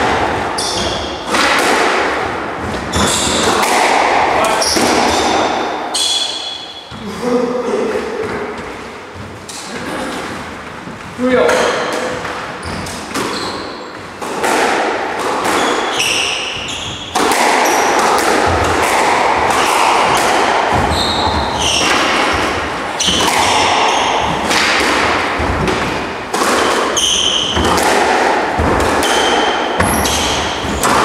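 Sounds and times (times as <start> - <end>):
squash ball struck by rackets: 0.0 - 6.7, 11.4 - 31.0
sneakers squeaking on wooden floor: 0.5 - 1.4, 2.2 - 3.8, 4.4 - 7.2, 8.0 - 14.3, 15.2 - 18.7, 19.4 - 26.1, 26.7 - 27.8, 28.6 - 31.0.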